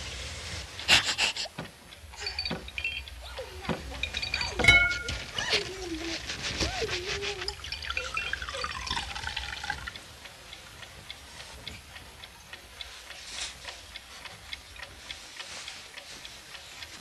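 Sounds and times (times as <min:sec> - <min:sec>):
soundtrack hiss: 0:00.0 - 0:17.0
steady ticking: 0:01.4 - 0:17.0.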